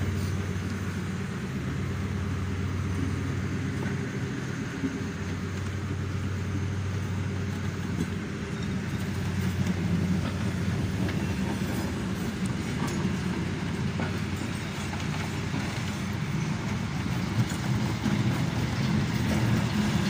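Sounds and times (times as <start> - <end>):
train coaches rolling past: 0.0 - 20.0.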